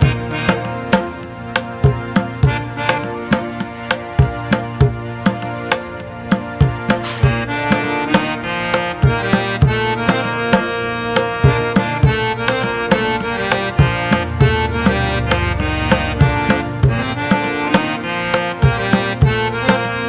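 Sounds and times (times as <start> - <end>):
hand drum strikes: 0.0 - 20.0
sustained melody of held notes: 0.0 - 20.0.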